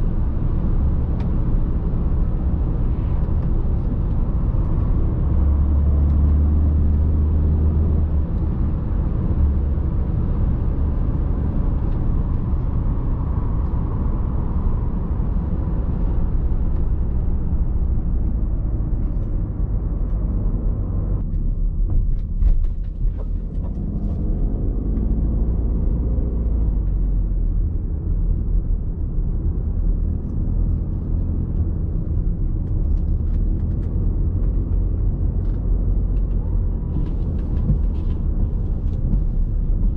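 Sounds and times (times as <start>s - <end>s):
diesel car engine running: 0.0s - 39.9s
tyre and road noise: 0.0s - 39.9s.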